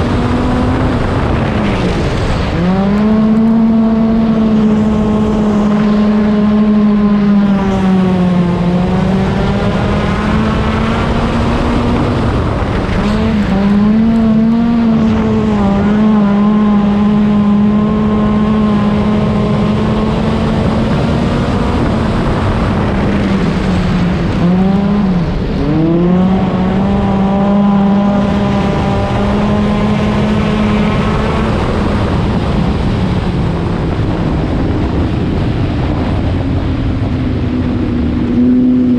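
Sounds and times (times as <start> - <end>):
car engine revving at high revs: 0.0 - 38.9.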